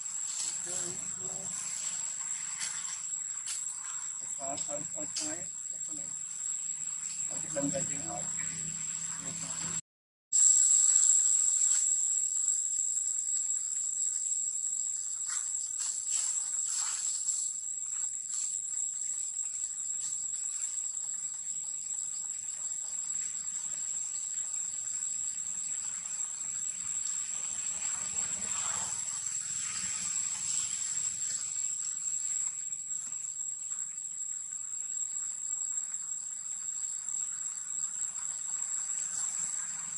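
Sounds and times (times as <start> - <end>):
insects buzzing: 0.0 - 9.8, 10.4 - 39.9.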